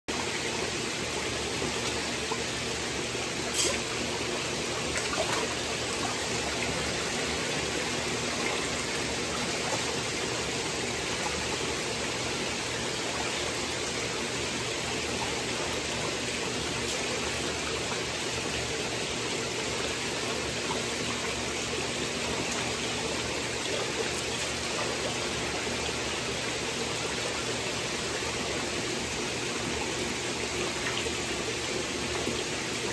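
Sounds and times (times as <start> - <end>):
faint pump motor hum: 0.1 - 32.9
water rushing through tanks: 0.1 - 32.9.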